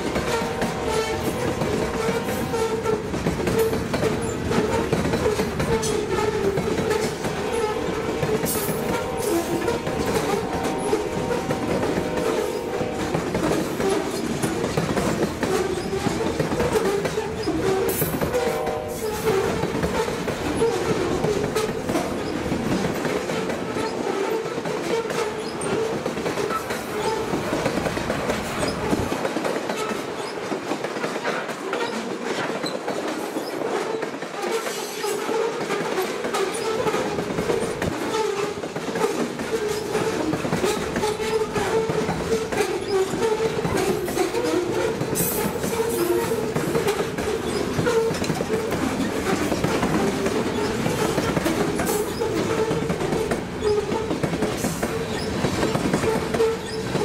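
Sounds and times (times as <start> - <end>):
freight train wheels rumbling on rail: 0.0 - 57.0
wheels clickety-clack: 0.0 - 57.0.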